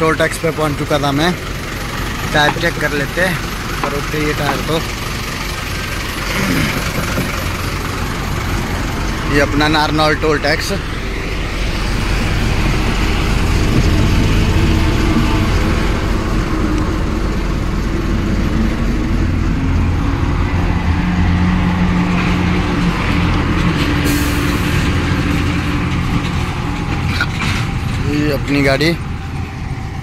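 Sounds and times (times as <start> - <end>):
diesel truck engines droning: 0.0 - 30.0
traffic noise: 0.0 - 30.0.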